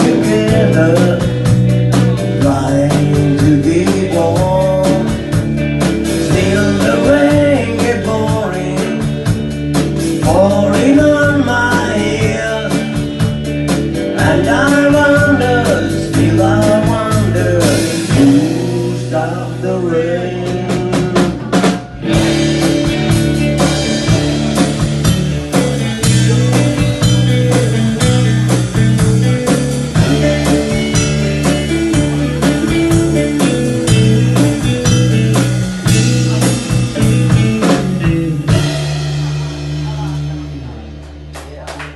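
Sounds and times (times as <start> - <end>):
instrumental rock music: 0.0 - 41.9.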